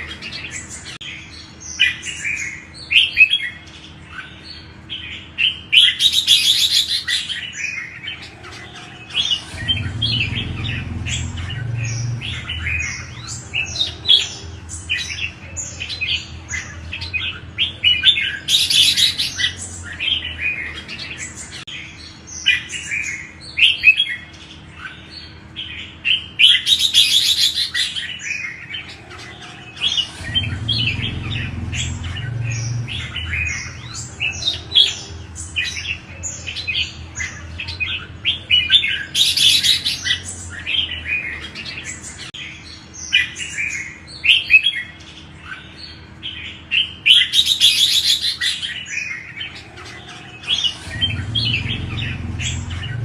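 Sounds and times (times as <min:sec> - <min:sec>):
birds singing chirping phrases: 0:00.0 - 0:53.0
harsh bird chatter: 0:00.0 - 0:53.0.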